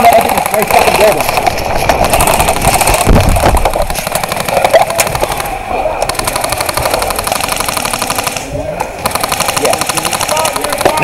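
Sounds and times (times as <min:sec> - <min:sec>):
airsoft guns firing bursts: 0:00.0 - 0:11.0.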